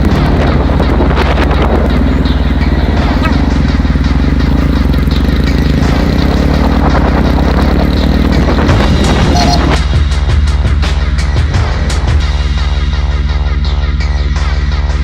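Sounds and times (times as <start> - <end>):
motorcycle engine thumping: 0.0 - 12.3.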